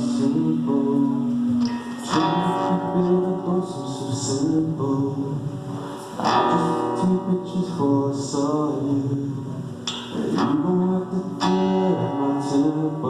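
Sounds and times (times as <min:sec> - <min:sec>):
person singing long notes: 0:00.0 - 0:13.0
strummed acoustic guitar: 0:00.0 - 0:13.0.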